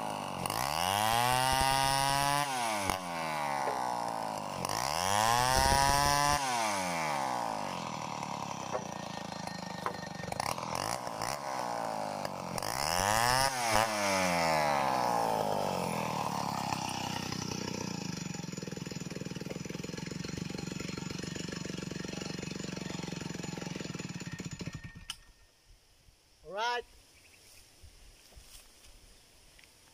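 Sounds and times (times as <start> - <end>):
chainsaw revving and idling: 0.0 - 25.3.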